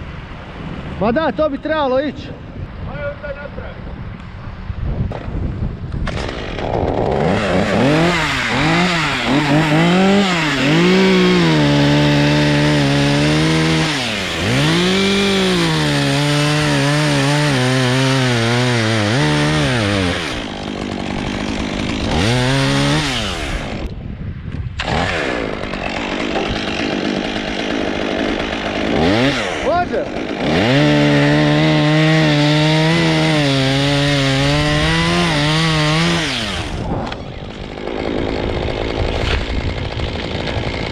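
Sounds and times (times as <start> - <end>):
chainsaw cutting wood: 6.0 - 24.0, 24.6 - 40.9.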